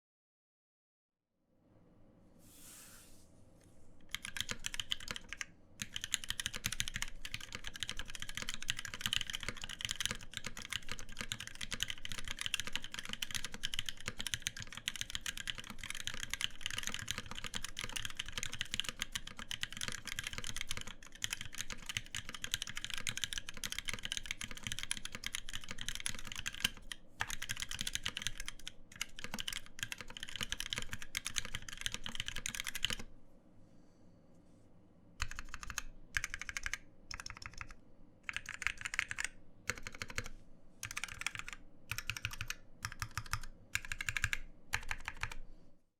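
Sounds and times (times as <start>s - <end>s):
fast mechanical keyboard typing: 4.1s - 33.1s, 35.2s - 45.4s.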